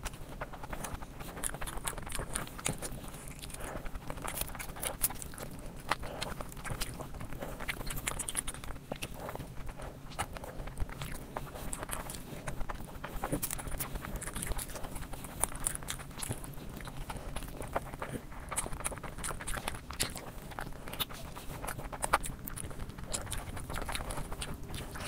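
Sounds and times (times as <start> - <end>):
lip smacks: 0.0 - 25.0
person chewing food: 0.0 - 25.0.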